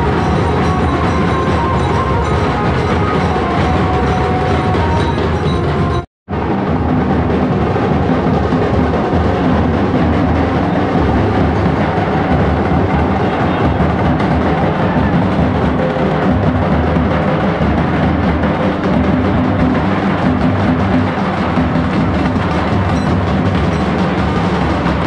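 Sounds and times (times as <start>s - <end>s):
barrel drums beaten with sticks: 0.0s - 25.0s.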